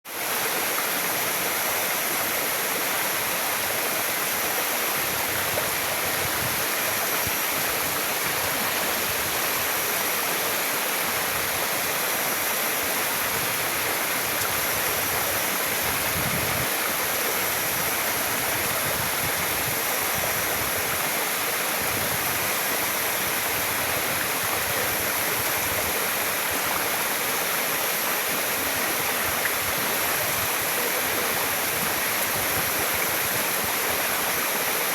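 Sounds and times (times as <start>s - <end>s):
waterfall rushing and splashing: 0.1s - 34.9s.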